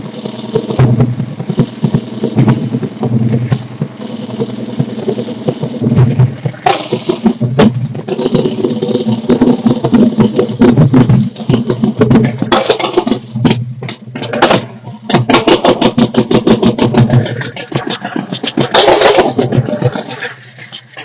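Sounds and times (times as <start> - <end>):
motorcycle engine running: 0.0 - 21.0
sharp engine knocks: 0.5 - 20.3.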